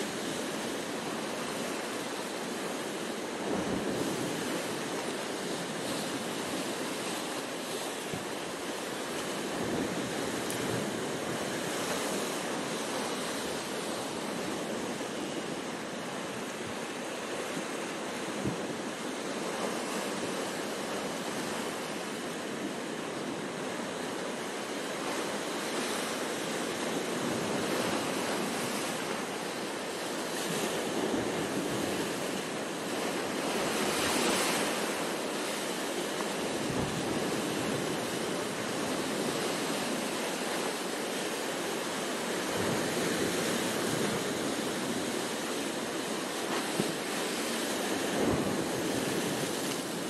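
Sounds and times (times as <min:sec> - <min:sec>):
surf washing over rocks: 0:00.0 - 0:50.0.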